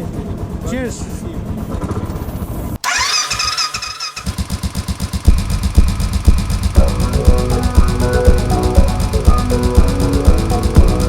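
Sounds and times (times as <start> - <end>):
motorcycle engine running: 0.1 - 11.0.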